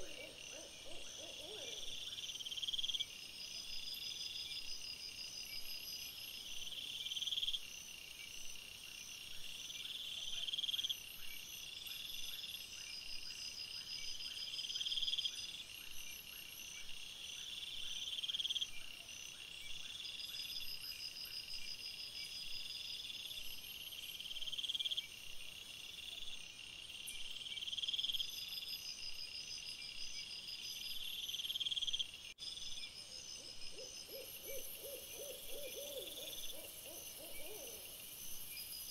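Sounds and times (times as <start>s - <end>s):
insects buzzing trills: 0.0s - 38.9s.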